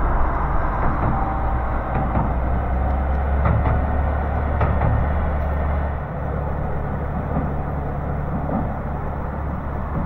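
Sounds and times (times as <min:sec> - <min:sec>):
diesel railcar rumbling: 0:00.0 - 0:10.0.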